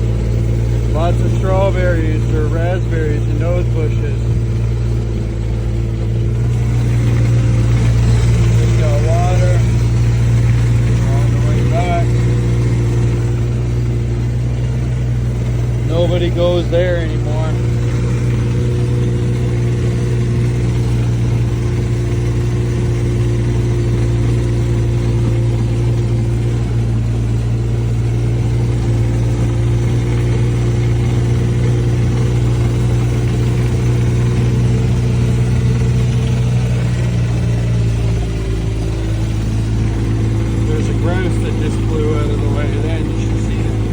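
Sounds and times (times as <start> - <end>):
vehicle engine humming: 0.0 - 43.9.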